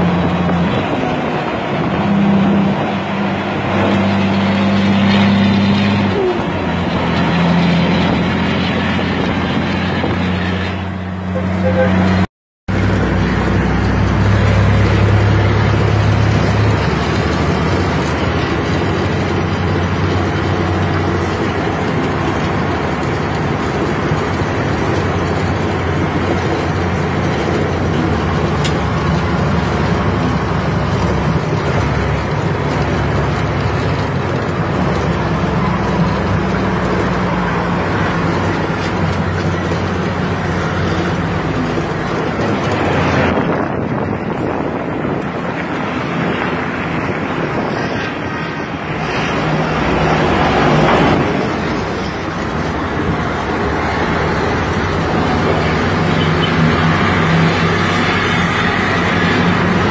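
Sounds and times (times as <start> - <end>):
diesel truck engine running: 0.0 - 59.9
tyre and road noise: 0.0 - 59.9.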